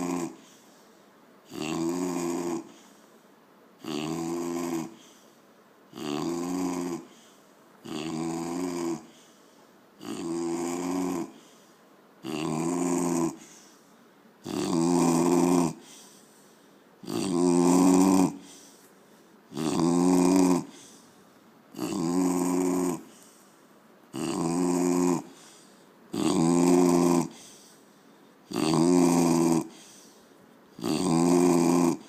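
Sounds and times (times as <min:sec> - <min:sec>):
person snoring: 0:00.0 - 0:00.8, 0:01.4 - 0:03.0, 0:03.8 - 0:05.3, 0:05.9 - 0:09.4, 0:10.0 - 0:13.8, 0:14.4 - 0:18.8, 0:19.5 - 0:23.5, 0:24.1 - 0:27.8, 0:28.4 - 0:32.0.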